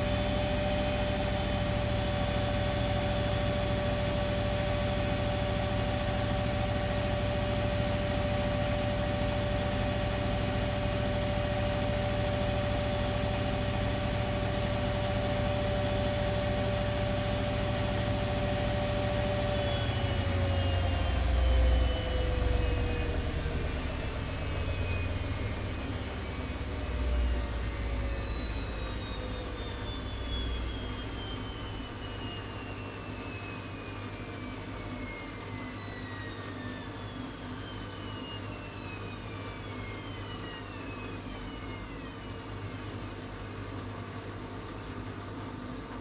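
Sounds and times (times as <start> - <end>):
washing machine spin whine: 0.0 - 46.0.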